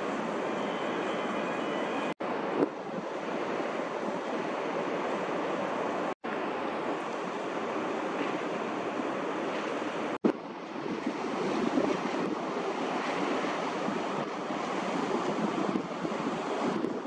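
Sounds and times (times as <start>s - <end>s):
sea water rushing: 0.0s - 17.0s.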